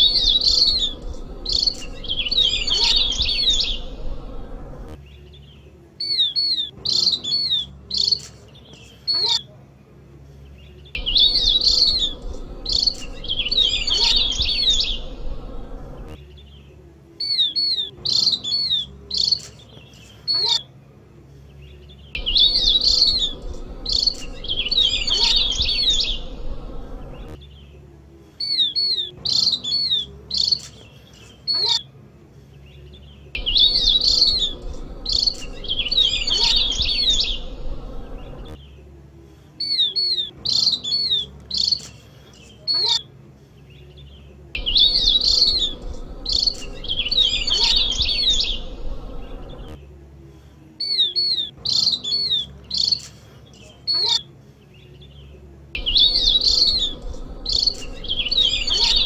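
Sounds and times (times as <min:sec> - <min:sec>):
bird chirps and twittering: 0:00.0 - 0:09.6, 0:10.4 - 0:20.8, 0:21.4 - 0:27.8, 0:28.4 - 0:31.9, 0:32.5 - 0:38.9, 0:39.6 - 0:49.9, 0:50.8 - 0:59.0.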